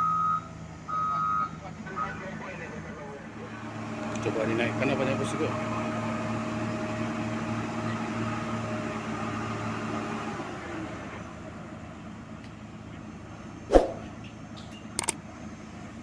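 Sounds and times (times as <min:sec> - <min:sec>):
heavy diesel engine running: 0:00.5 - 0:16.0.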